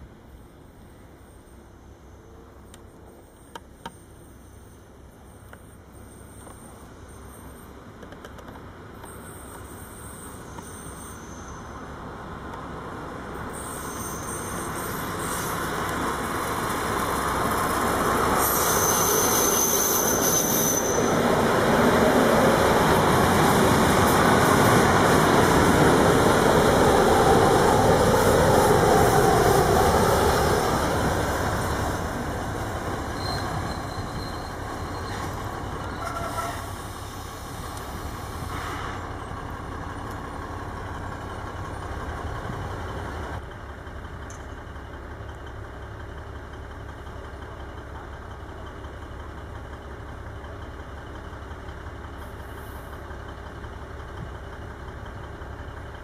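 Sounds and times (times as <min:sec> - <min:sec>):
diesel train rolling past: 0:00.0 - 0:56.0.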